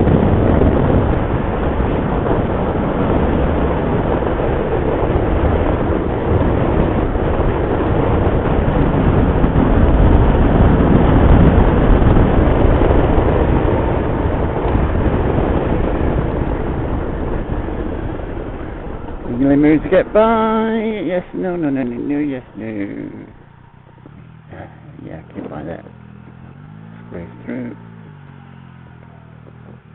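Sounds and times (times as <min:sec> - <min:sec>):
motorcycle engine: 0:00.0 - 0:29.9
wind rush: 0:00.0 - 0:29.9.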